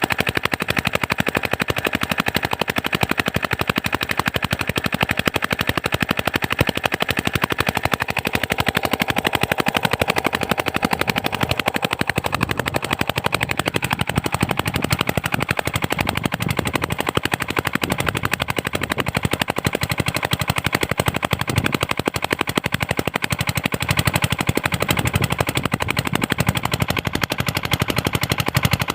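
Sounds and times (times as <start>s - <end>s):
diesel engine exhaust knock: 0.0s - 28.9s.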